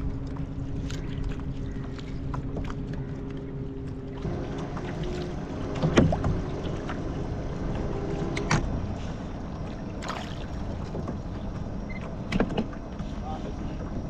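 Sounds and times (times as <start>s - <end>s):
small waves lapping on hull: 0.0s - 14.0s.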